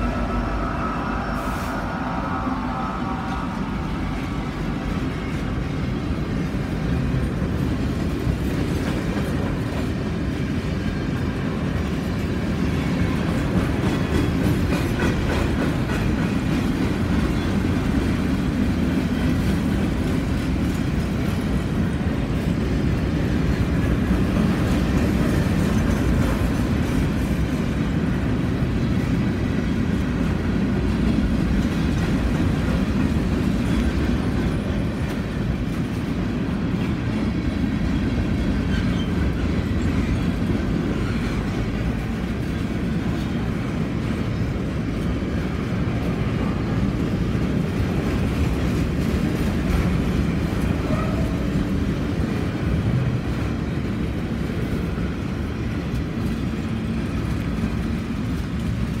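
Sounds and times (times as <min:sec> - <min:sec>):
steel wheels clattering on rails: 0:02.3 - 0:59.0.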